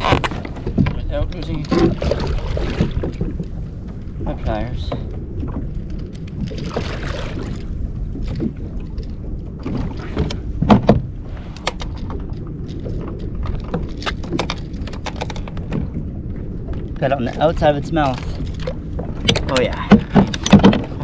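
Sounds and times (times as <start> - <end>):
knocks and clatter against kayak: 0.0 - 16.1, 16.7 - 21.0
low rumble: 0.0 - 21.0.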